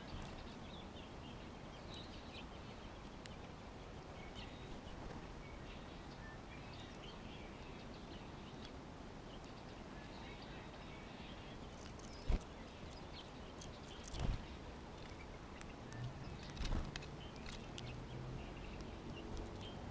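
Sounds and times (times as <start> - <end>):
outdoor background hiss: 0.0 - 19.9
songbirds chirping: 0.0 - 19.9.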